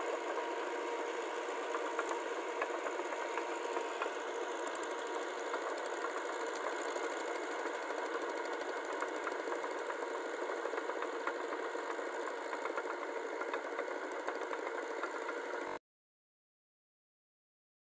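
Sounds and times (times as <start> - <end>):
tractor diesel engine running: 0.0 - 15.8.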